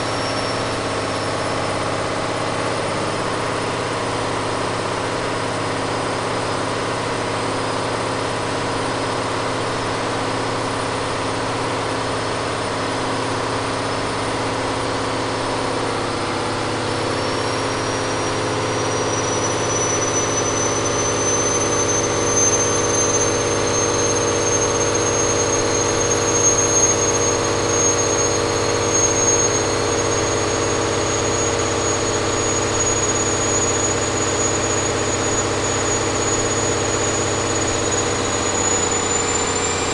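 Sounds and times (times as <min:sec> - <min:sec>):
thin high whine: 0:00.0 - 0:05.8, 0:09.7 - 0:39.9
diesel engine running: 0:00.0 - 0:39.9.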